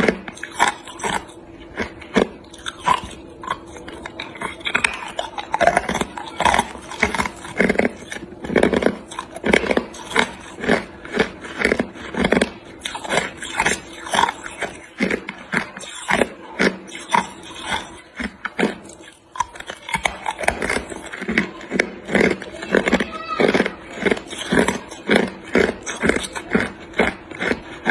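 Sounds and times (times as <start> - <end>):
ice cubes crunched by teeth: 0.0 - 27.9.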